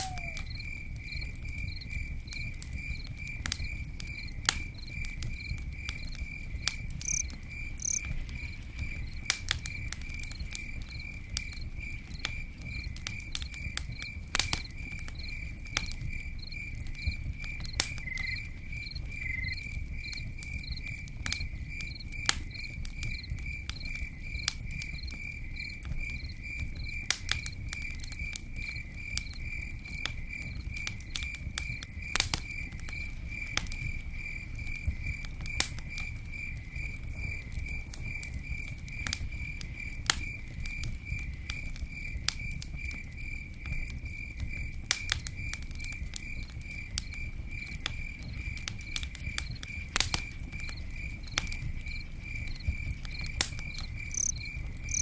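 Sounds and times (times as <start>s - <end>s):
campfire crackling and popping: 0.0s - 55.0s
cricket chirping: 0.0s - 55.0s.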